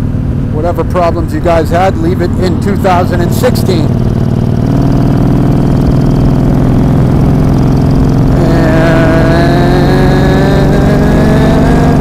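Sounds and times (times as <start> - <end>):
high-pitched whine: 0.0 - 12.0
motorcycle engine at speed: 0.0 - 12.0.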